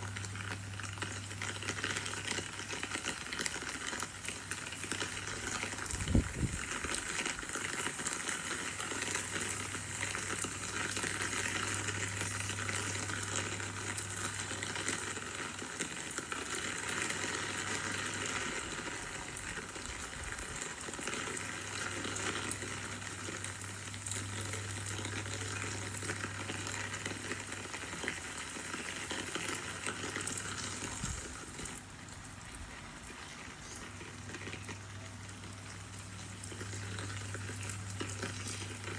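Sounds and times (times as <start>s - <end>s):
low steady hum: 0.0s - 38.9s
steady rain falling: 0.0s - 38.9s.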